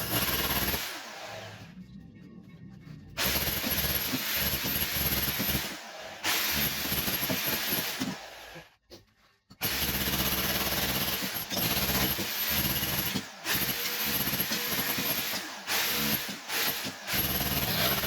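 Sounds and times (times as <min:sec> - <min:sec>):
demolition hammer chiselling tiles: 0:00.0 - 0:01.0, 0:03.2 - 0:08.3, 0:09.6 - 0:18.0.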